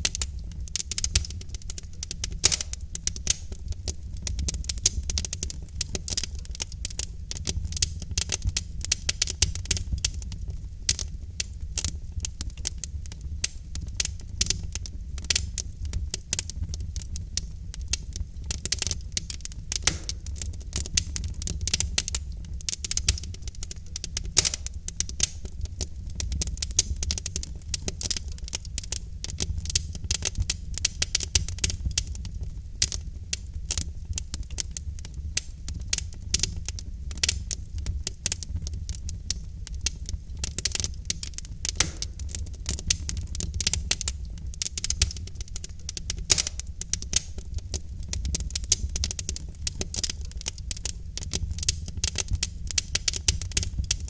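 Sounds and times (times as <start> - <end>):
logs crackling and popping in fire: 0.0 - 54.0
low fire rumble: 0.0 - 54.0.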